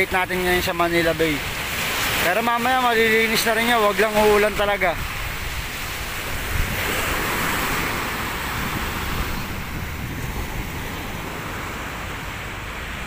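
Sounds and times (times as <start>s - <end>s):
sea surf breaking on shore: 0.0s - 13.0s
wind rumbling on microphone: 0.0s - 13.0s.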